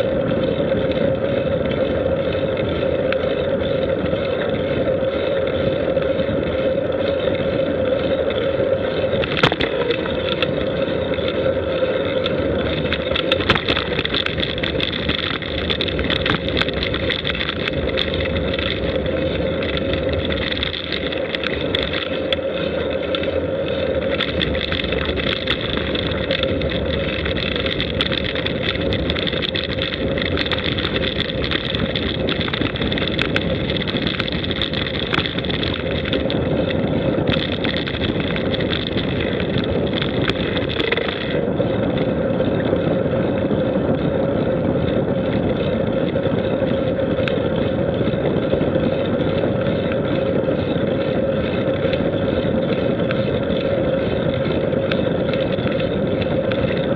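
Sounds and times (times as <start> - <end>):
constant hum: 0.0 - 56.9
road rumble: 0.0 - 56.9
wind on microphone: 0.0 - 56.9.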